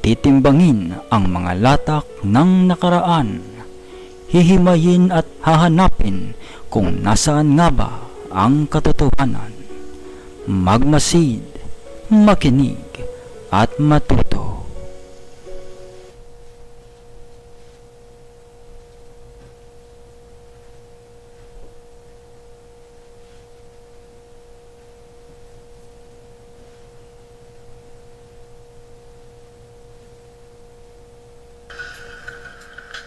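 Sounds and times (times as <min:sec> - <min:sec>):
steady pure tone: 0:00.0 - 0:33.0.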